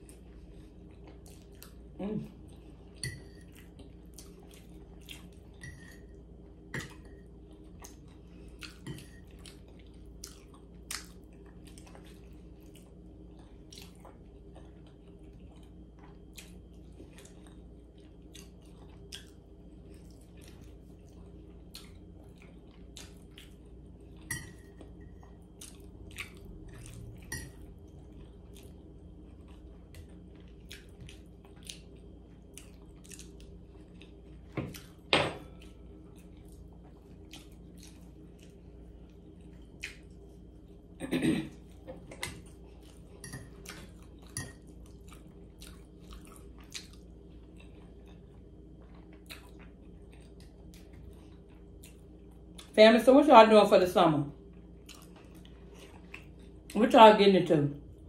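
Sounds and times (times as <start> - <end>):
person chewing food: 0.0 - 52.8, 54.4 - 56.8.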